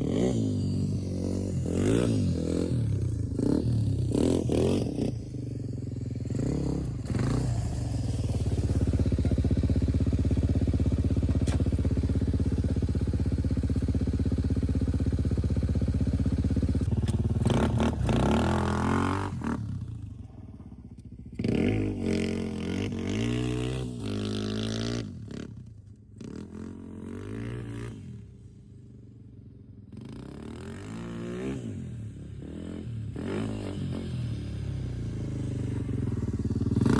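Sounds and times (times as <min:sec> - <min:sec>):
off-road motorcycle engine revving: 0:00.0 - 0:28.4, 0:29.7 - 0:36.9.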